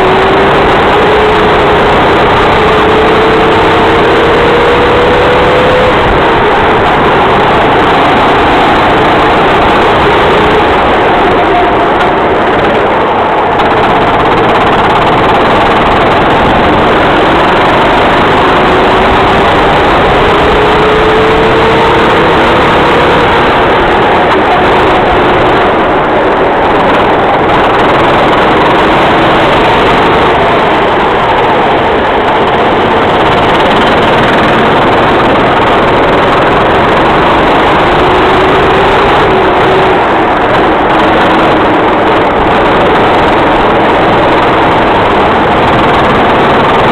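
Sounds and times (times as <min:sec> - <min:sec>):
dense rushing noise: 0:00.0 - 0:46.9
racing kart engine: 0:00.0 - 0:46.9.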